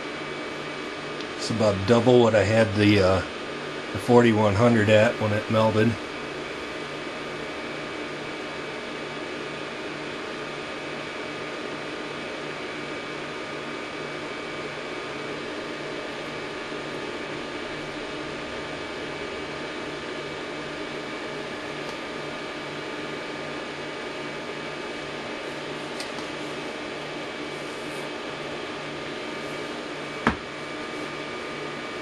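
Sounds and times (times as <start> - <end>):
cooling fans whirring: 0.0 - 32.0.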